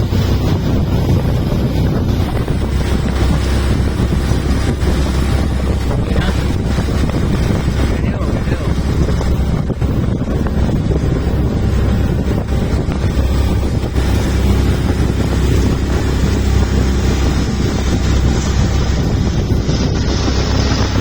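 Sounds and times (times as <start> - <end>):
boat motor rumbling: 0.0 - 21.0
wind buffeting microphone: 0.0 - 21.0.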